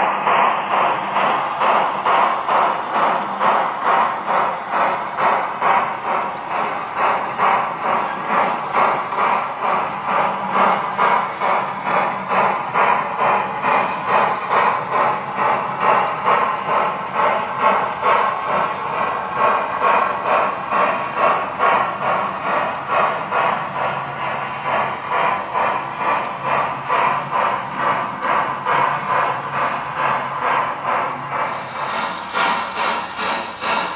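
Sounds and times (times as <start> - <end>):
model steam locomotive chuffing: 0.0 - 33.9.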